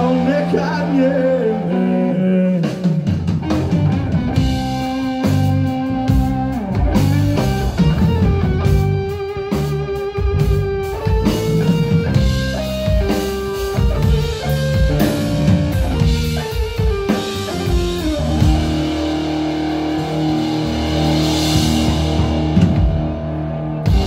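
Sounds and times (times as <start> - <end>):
drum kit: 0.0 - 1.6, 2.4 - 24.0
bass guitar: 0.0 - 24.0
electric guitar: 0.0 - 24.0.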